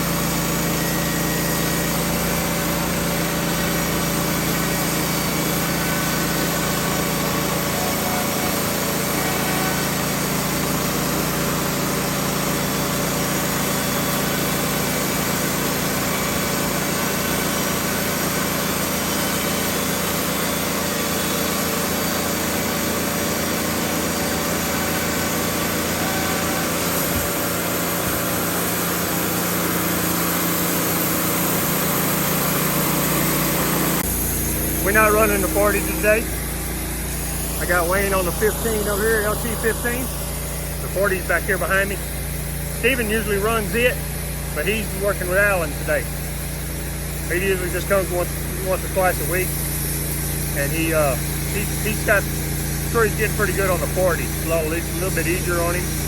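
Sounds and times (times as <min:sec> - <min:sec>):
band sawmill sawing boards: 0:00.0 - 0:56.0.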